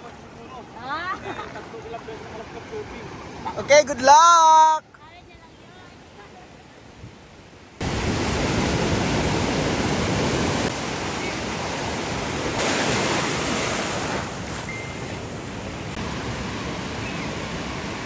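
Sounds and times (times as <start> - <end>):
waves breaking: 0.0 - 7.1, 7.8 - 18.0.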